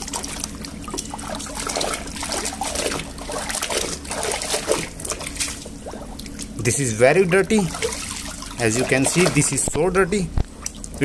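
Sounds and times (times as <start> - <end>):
muddy water sloshing and splashing: 0.0 - 9.9.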